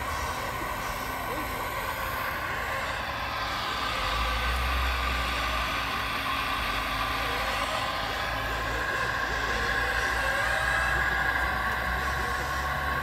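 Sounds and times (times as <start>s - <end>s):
diesel engine drone through speakers: 0.0s - 13.0s
high whine: 0.0s - 13.0s.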